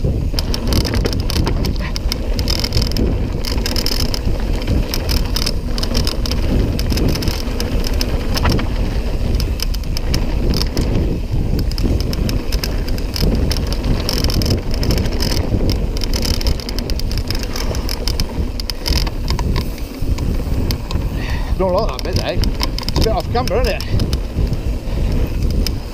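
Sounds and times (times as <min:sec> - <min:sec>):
bike rattling clicks: 0:00.0 - 0:25.9
wind rumbling on microphone: 0:00.0 - 0:25.9
tyres crunching over stones: 0:00.4 - 0:25.9.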